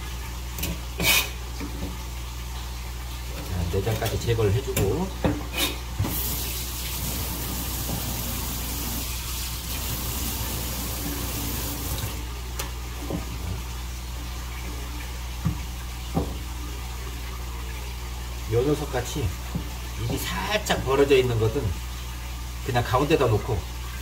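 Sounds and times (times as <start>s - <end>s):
water running from a tap: 0.0s - 24.0s.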